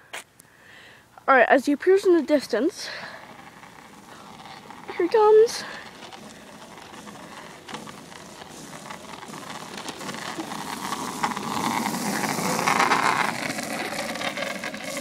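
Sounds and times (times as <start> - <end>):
scooter wheels rolling on wet asphalt: 1.4 - 15.0.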